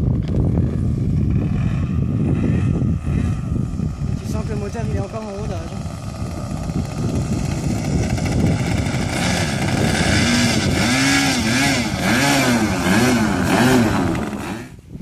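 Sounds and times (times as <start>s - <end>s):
model plane engine running: 0.1s - 15.0s.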